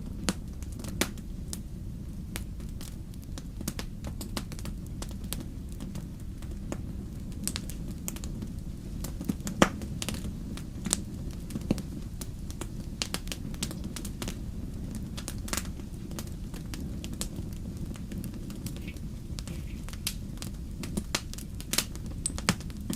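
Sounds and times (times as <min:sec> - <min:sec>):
fire crackling and popping: 0:00.0 - 0:22.9
low rumble of flames: 0:00.0 - 0:22.9.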